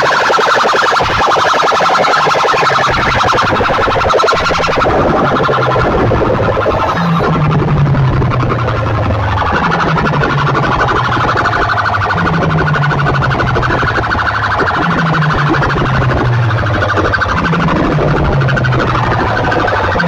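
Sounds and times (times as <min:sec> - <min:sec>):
pulsing electronic siren wail: 0:00.0 - 0:20.0
low bass figure: 0:02.4 - 0:20.0.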